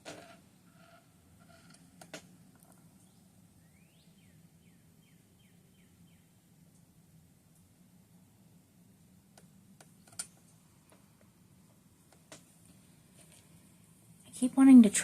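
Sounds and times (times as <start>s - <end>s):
faint bird song: 0.0s - 14.4s
low steady hum: 0.0s - 15.0s.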